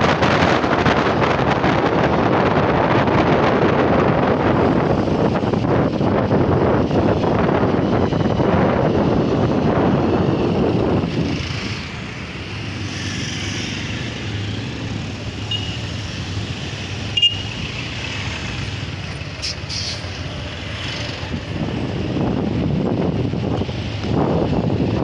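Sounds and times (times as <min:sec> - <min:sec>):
wind buffeting microphone: 0:00.0 - 0:17.2, 0:20.1 - 0:25.0
motorcycle engine hum: 0:00.0 - 0:25.0
traffic noise: 0:00.0 - 0:25.0.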